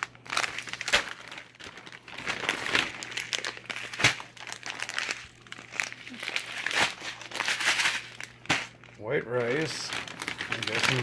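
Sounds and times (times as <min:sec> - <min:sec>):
food pouches crinkling: 0:00.0 - 0:11.0.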